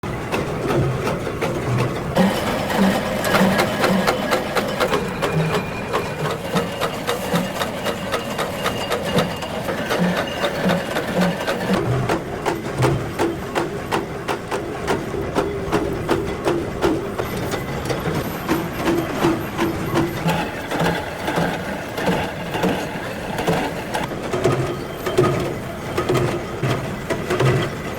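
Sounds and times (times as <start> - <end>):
machinery clattering: 0.1 - 27.9.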